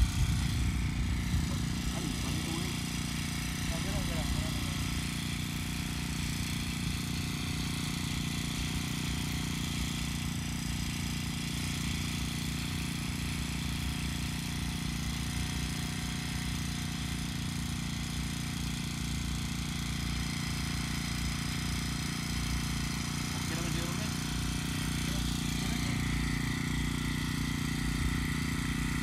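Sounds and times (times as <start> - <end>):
brush cutter engine idling: 0.0 - 29.0.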